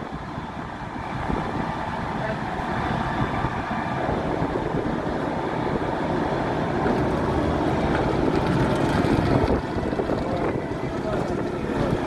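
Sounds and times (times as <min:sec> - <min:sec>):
bulldozer engine rumbling: 0:00.0 - 0:12.0.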